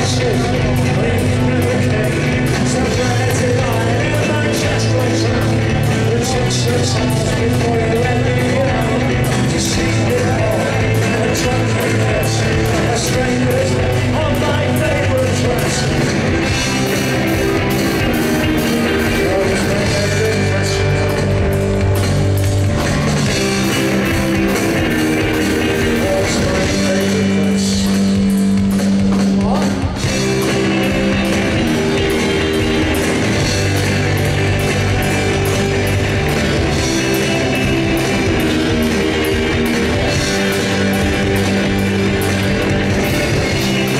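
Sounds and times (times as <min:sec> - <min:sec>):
bass guitar: 0:00.0 - 0:43.9
drum kit: 0:00.0 - 0:43.9
electric guitar: 0:00.0 - 0:43.9.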